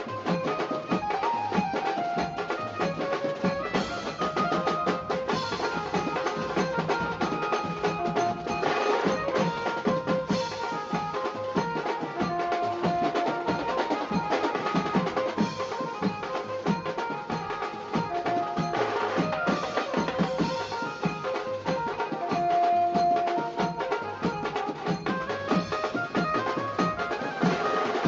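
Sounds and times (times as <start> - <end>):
drums and melody music: 0.0 - 28.0.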